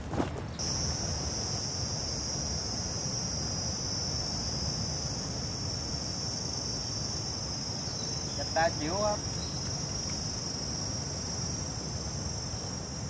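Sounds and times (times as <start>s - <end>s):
high-pitched insect chorus: 0.6s - 13.0s.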